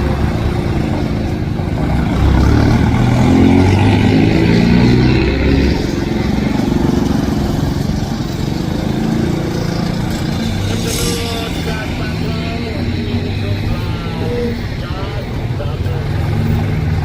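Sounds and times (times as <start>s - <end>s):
diesel train engine droning: 0.0s - 17.0s.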